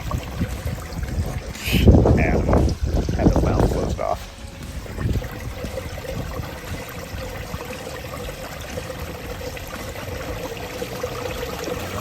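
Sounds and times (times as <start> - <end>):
water running down stream: 0.0 - 12.0.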